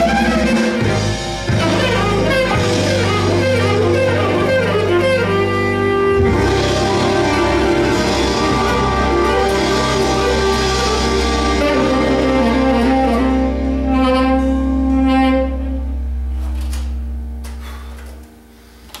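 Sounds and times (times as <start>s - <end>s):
tenor saxophone playing blues: 0.0s - 18.4s
backing track: 0.0s - 18.6s.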